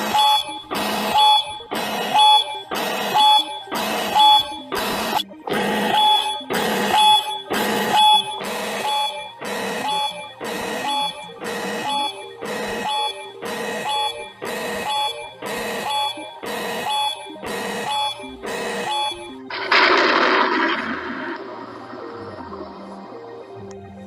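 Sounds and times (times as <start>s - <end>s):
steady high alert tones: 0.0s - 23.3s
harsh buzzing alarm blasts: 0.0s - 23.6s.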